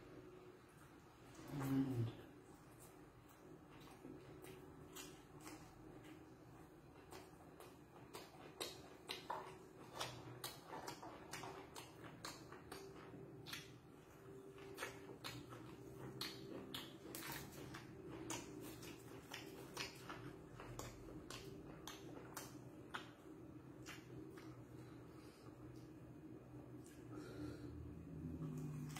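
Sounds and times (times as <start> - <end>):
man chewing with wet smacking: 0.0 - 28.9.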